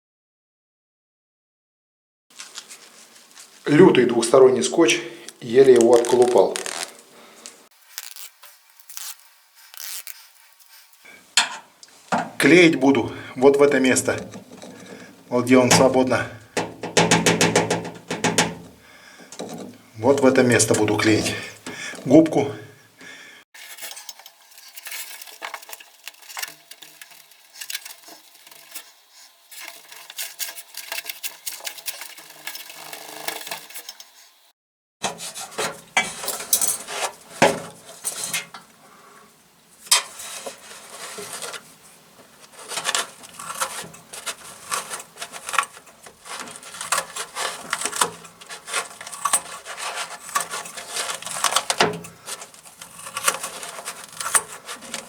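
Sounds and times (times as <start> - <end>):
rustling and scraping: 2.3 - 22.2, 23.6 - 34.4, 35.0 - 55.0.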